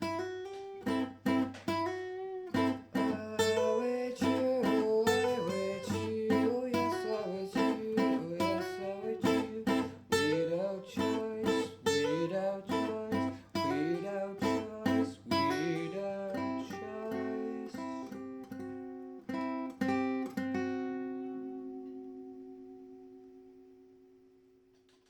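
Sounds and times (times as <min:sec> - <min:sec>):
acoustic guitars strumming: 0:00.0 - 0:24.7.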